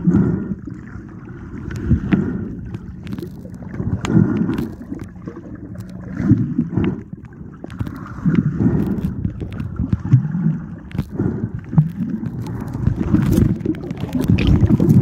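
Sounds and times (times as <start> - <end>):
muffled underwater sloshing: 0.0 - 15.0.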